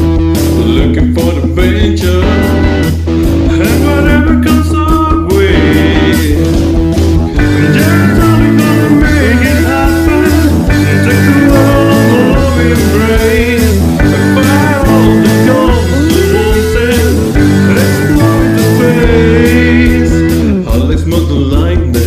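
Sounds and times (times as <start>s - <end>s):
rock song with vocals: 0.0s - 22.0s.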